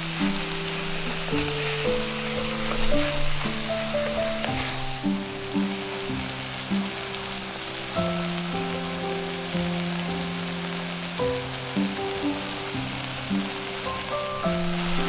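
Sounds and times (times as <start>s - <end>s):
food sizzling: 0.0s - 15.0s
slow background music: 0.0s - 15.0s.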